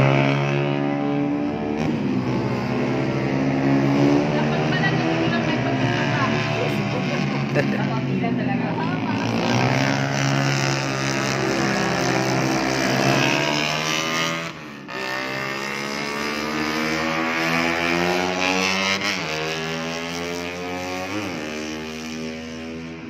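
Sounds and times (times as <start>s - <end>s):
motorcycle engines revving high: 0.0s - 23.0s.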